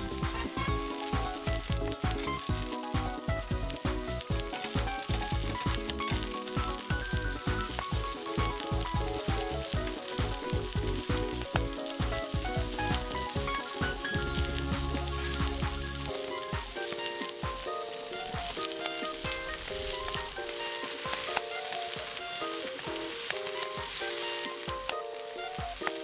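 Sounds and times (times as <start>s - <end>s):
background music with low beat: 0.0s - 26.0s
steak sizzling over campfire: 0.0s - 26.0s.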